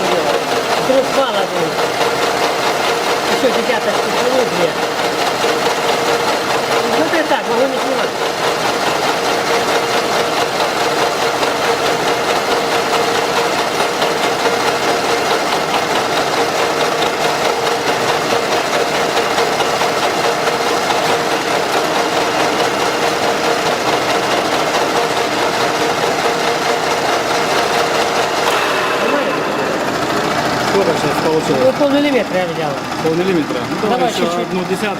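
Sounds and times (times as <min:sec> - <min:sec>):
machine tool pulsing hum: 0:00.0 - 0:34.5.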